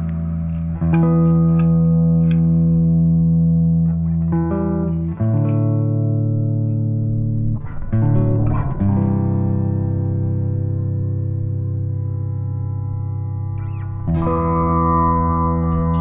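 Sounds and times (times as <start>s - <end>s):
guitar and bass music: 0.0s - 16.0s.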